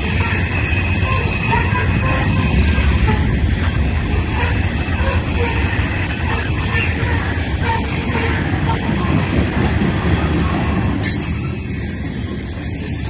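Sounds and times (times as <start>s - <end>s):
high wheel squeal: 0.0s - 13.0s
train wheels rumbling on rails: 0.0s - 13.0s.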